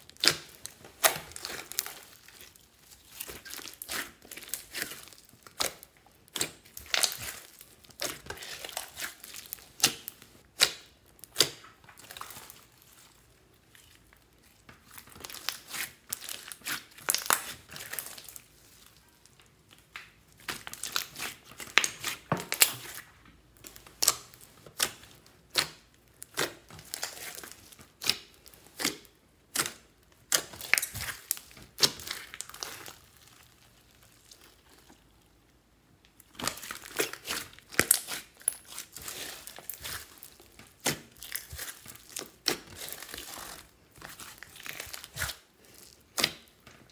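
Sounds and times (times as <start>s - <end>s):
slime crackling and popping: 0.0s - 35.3s, 36.1s - 46.9s.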